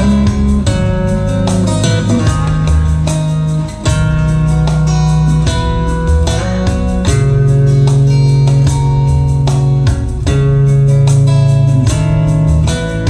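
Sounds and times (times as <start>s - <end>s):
heavy deep bass: 0.0s - 13.0s
plucked guitar notes: 0.0s - 13.0s.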